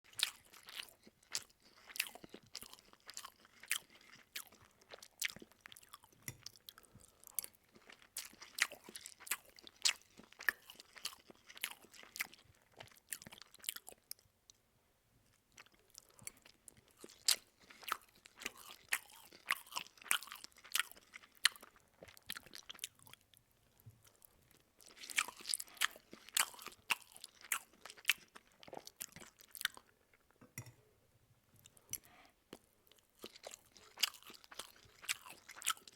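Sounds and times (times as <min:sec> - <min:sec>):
person chewing loudly: 0:00.0 - 0:14.2, 0:15.6 - 0:23.3, 0:24.0 - 0:29.9, 0:31.7 - 0:35.9.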